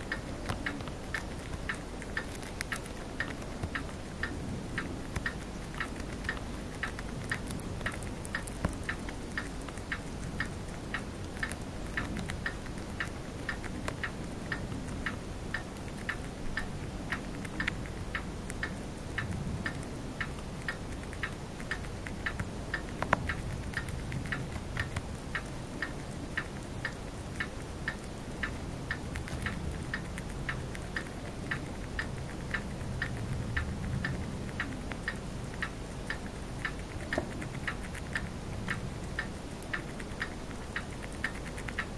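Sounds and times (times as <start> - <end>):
hamster chewing leaf crunching: 0.0 - 41.9
low room hum: 0.0 - 41.9.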